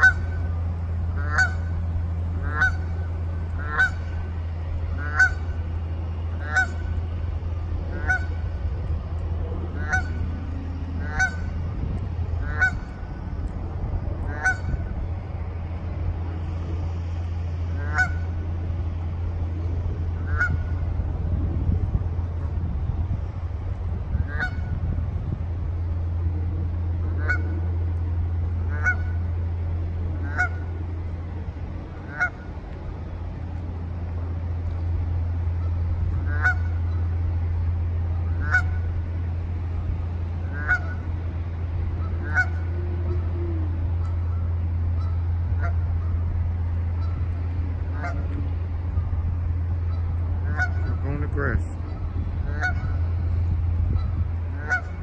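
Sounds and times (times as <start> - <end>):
geese honking: 0.0 - 21.0, 24.1 - 24.8, 26.0 - 33.4, 34.2 - 55.0
steady low hum: 0.0 - 55.0.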